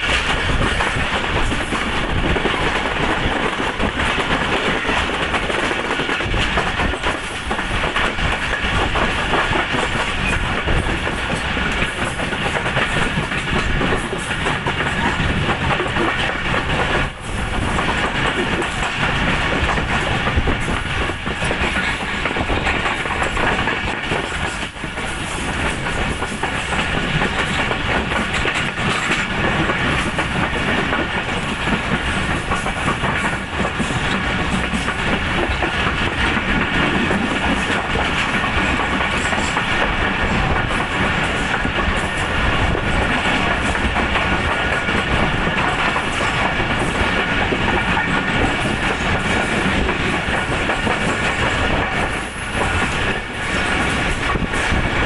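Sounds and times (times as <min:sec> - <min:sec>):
clickety-clack of rail joints: 0:00.0 - 0:55.0
train coach rattling: 0:00.0 - 0:55.0
train wheels rumbling on rails: 0:00.0 - 0:55.0.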